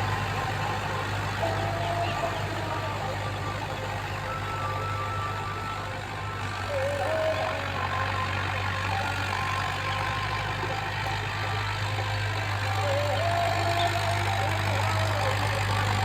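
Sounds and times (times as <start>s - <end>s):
faint wavering high tones: 0.0s - 16.0s
tractor diesel engine humming: 0.0s - 16.0s.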